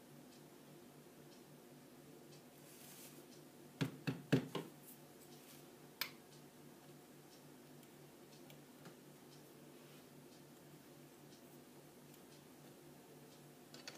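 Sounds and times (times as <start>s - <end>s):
faint low hum: 0.0s - 13.9s.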